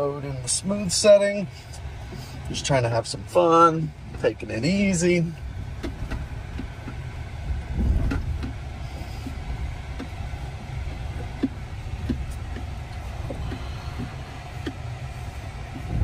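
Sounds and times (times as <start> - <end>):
heavy vehicle bump: 0.0 - 16.0
low vehicle cab rumble: 0.0 - 16.0.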